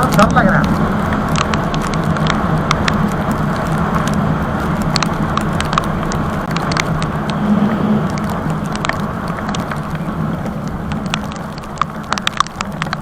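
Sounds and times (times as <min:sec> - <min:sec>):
motorcycle engine running: 0:00.0 - 0:13.0
raindrops ticking: 0:00.0 - 0:13.0
wind noise on microphone: 0:00.0 - 0:13.0.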